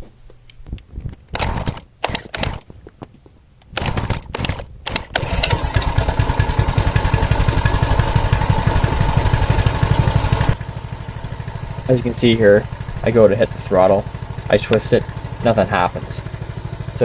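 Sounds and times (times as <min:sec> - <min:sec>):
small engine starting and idling: 0:01.3 - 0:02.9, 0:03.6 - 0:17.0.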